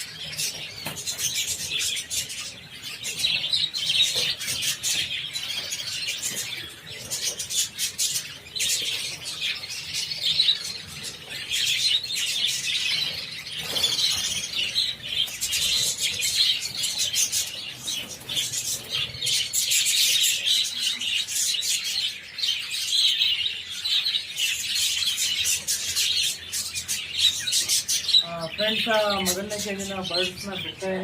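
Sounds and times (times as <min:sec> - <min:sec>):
budgerigar flock chattering: 0:00.0 - 0:31.0.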